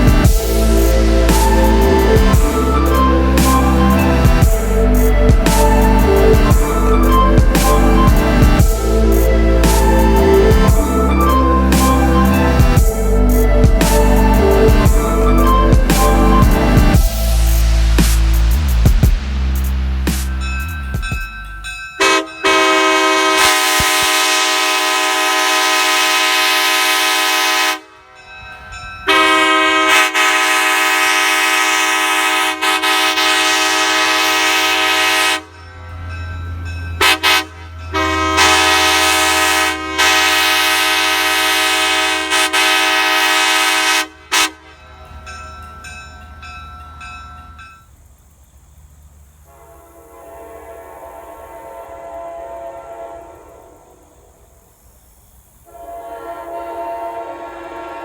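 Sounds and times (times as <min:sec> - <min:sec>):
locomotive air horn: 0:00.0 - 0:18.0, 0:22.0 - 0:28.1, 0:29.1 - 0:36.2, 0:37.0 - 0:45.4, 0:49.4 - 0:54.4, 0:55.7 - 0:58.0.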